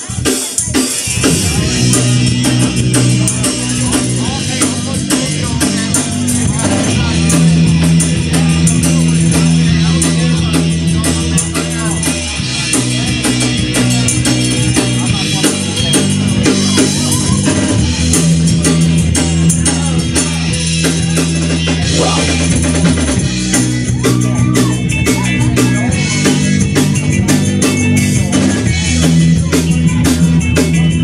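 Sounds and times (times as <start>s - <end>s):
live band playing: 0.0s - 31.0s
low bass line: 1.1s - 31.0s.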